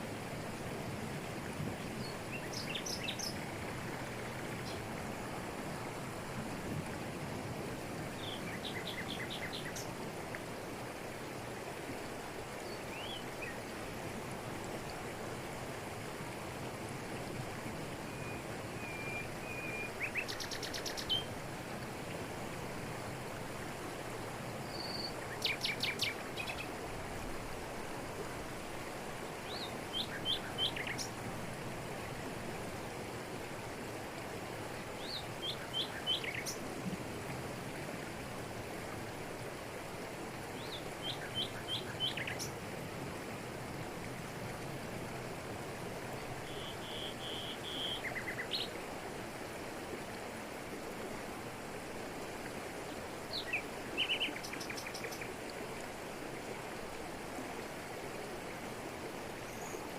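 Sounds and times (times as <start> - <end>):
waterfall over rocks: 0.0 - 59.9.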